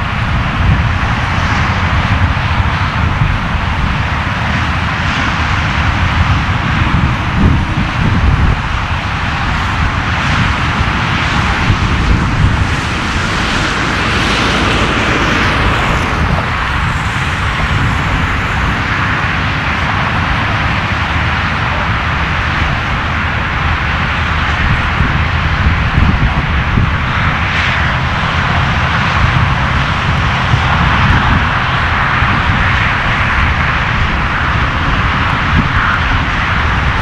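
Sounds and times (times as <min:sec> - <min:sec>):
jet airliner engine rushing: 0:00.0 - 0:37.0.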